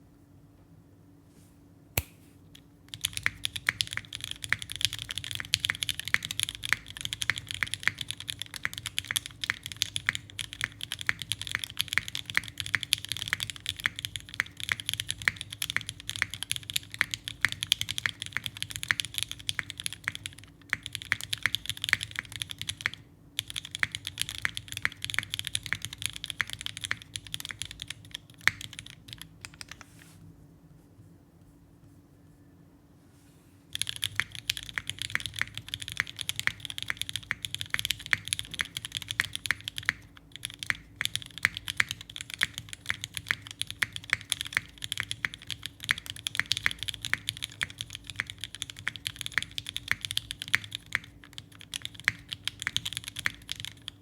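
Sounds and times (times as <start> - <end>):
fast typing on mechanical keyboard: 2.9 - 29.8, 33.7 - 54.0.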